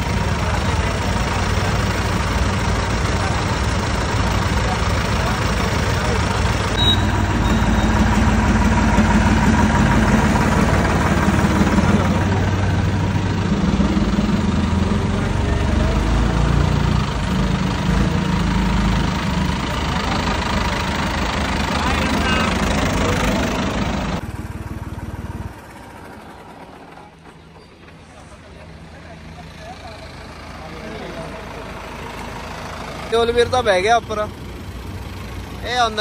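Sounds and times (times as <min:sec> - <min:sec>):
diesel tractor engine running: 0:00.0 - 0:36.0.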